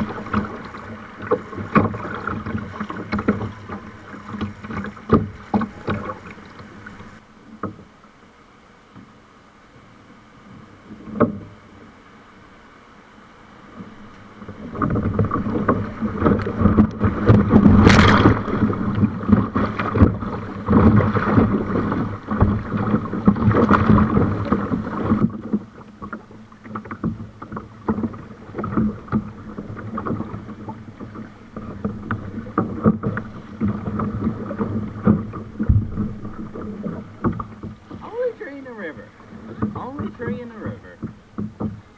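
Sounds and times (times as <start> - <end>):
paddle knocking against hull: 0.0 - 8.0, 10.9 - 11.7, 13.6 - 41.9
paddle splashes: 0.0 - 41.9
water rushing around a kayak: 0.0 - 41.9.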